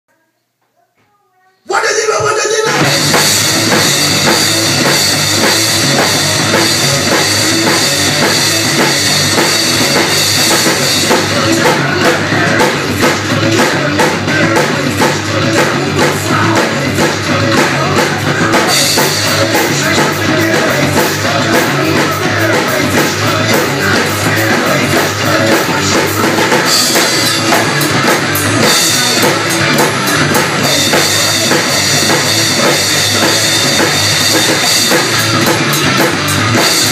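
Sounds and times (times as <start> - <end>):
drum kit rock beat: 1.7 - 36.9
recorded rock song: 1.7 - 36.9.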